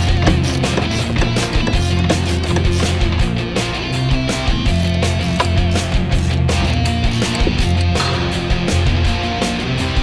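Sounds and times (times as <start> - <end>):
rock music with electric guitar: 0.0 - 10.0.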